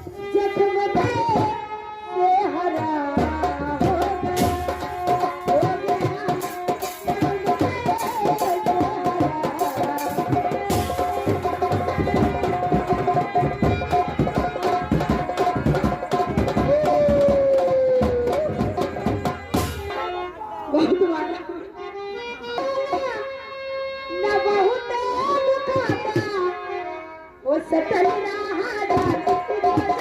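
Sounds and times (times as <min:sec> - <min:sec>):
tabla and drum strokes: 0:00.0 - 0:30.0.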